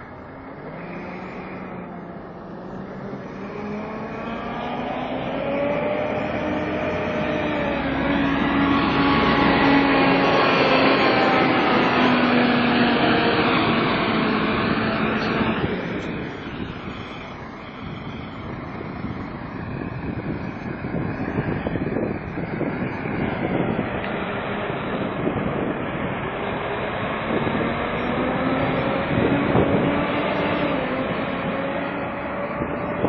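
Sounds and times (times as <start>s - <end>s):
bus engine: 0.0s - 33.0s
whining tones gliding in pitch: 0.0s - 33.0s.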